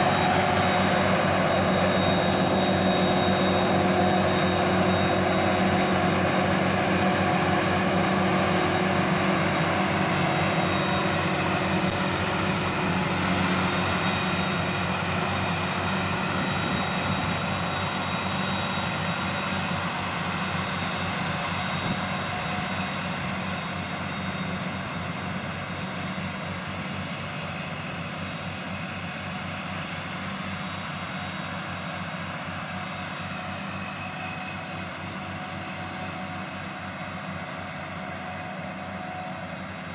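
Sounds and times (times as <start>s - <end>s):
diesel harvester engine running: 0.0s - 39.9s.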